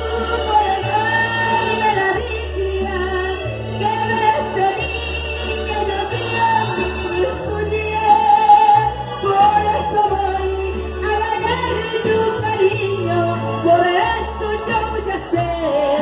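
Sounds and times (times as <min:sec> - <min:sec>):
backing music with bass line: 0:00.0 - 0:16.0
woman singing into a microphone: 0:00.0 - 0:16.0.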